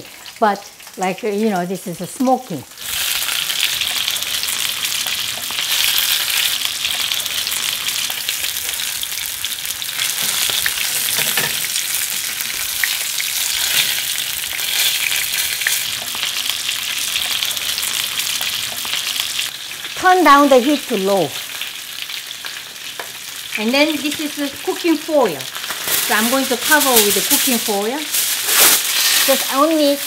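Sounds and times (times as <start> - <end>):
fish sizzling in frying pans: 0.0 - 30.0.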